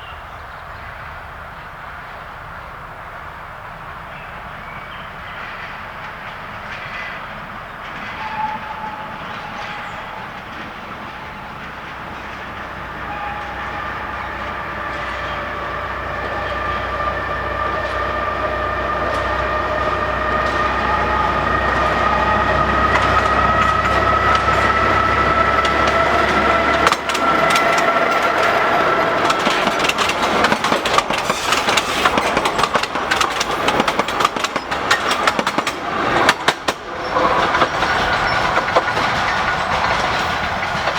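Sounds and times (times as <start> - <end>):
diesel locomotive engine rumbling: 0.0 - 40.9
wagons clicking over rail joints: 5.4 - 40.9.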